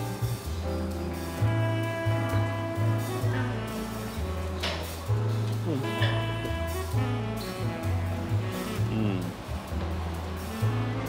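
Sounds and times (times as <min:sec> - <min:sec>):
jazz music with bass line: 0:00.0 - 0:11.0.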